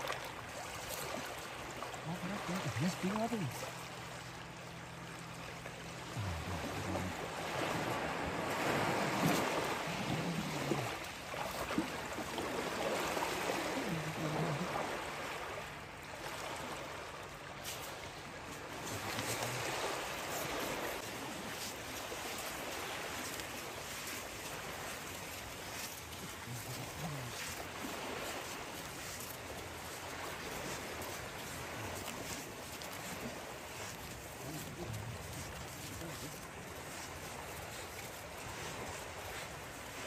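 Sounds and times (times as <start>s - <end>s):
small waves washing onto shore: 0.0s - 40.0s.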